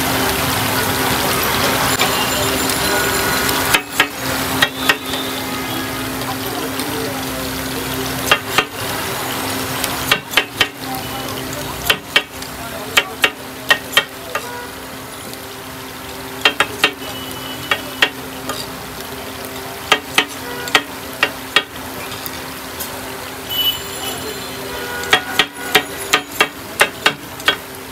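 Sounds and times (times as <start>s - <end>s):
chicken sizzling in oil: 0.0s - 27.9s.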